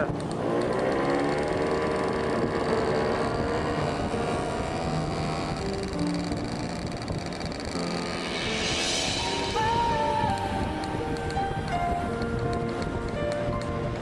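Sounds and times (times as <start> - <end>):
motor scooter engine running: 0.0 - 14.0
wind and road noise: 0.0 - 14.0.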